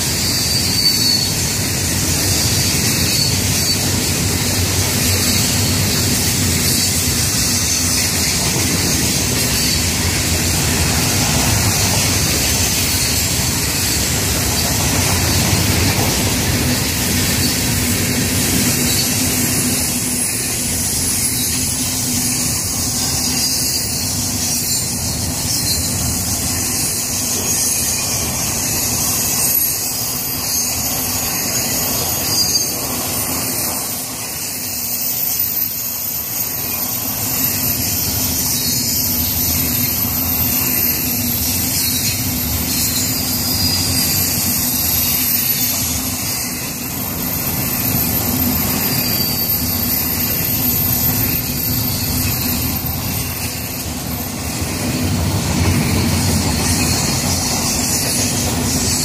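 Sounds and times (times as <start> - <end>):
high-pitched wheel squeals: 0.0 - 59.0
steel wheels rumbling on rail: 0.0 - 59.0.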